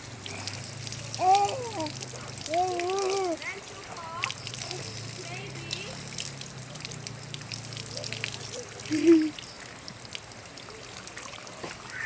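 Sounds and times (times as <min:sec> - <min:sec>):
splashy clicks: 0:00.0 - 0:10.2
water trickling and pouring: 0:00.0 - 0:12.0.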